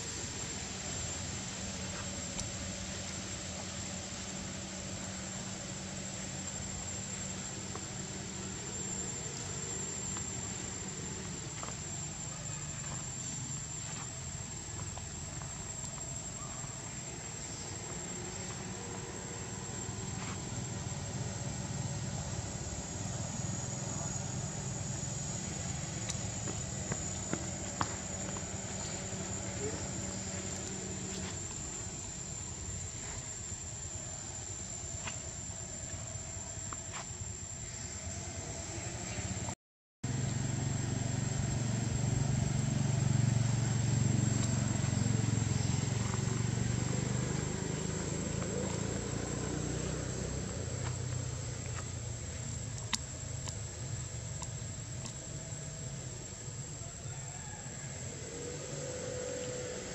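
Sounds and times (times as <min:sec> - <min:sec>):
high-pitched whine: 0:00.0 - 0:59.9
low motor rumble: 0:00.0 - 0:59.9.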